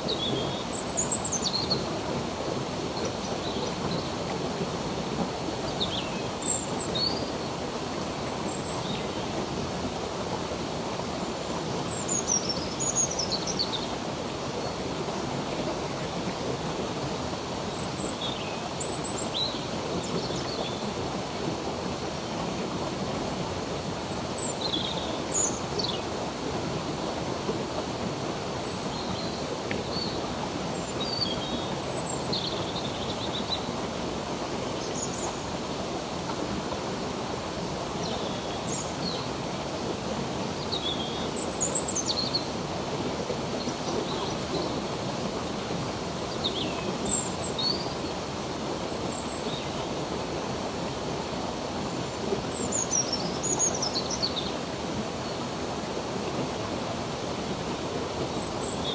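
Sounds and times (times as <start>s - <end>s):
flowing stream: 0.0s - 58.9s.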